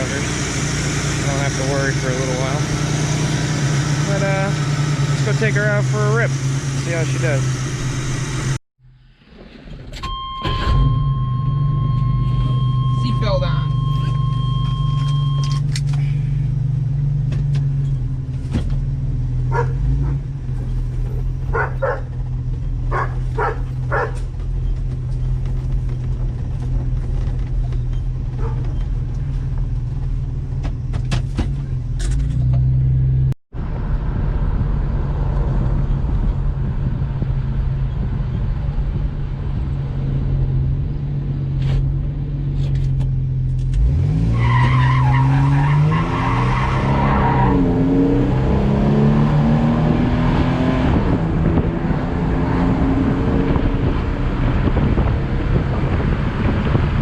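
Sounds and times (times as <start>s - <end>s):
pickup engine and road noise: 0.0s - 57.0s.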